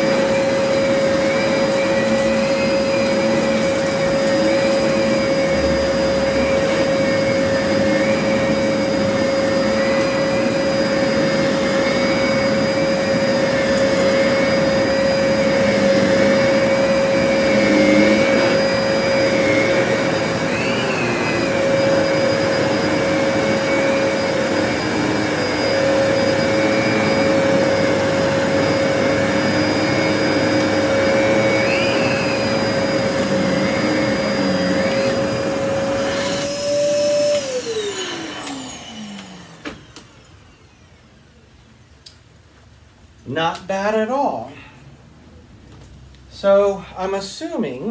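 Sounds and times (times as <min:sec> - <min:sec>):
vacuum cleaner motor whine: 0:00.0 - 0:41.2.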